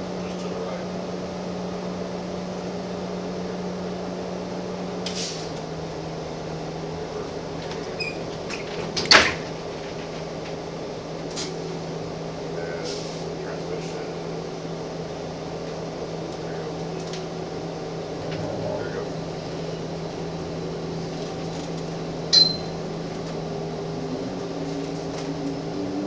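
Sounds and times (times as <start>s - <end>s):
bus diesel engine idling: 0.0s - 26.0s.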